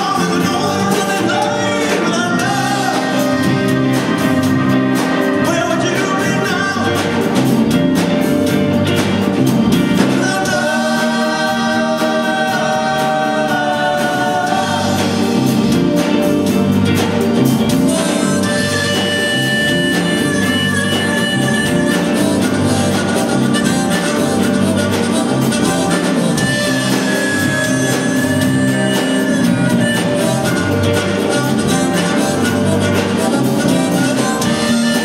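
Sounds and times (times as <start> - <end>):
harmonica solo: 0.0 - 16.5, 17.2 - 35.0
live rock band: 0.0 - 35.0.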